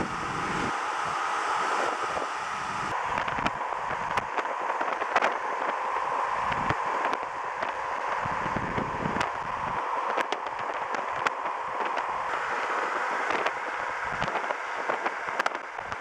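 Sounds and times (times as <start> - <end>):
car road noise hum: 0.0 - 16.0.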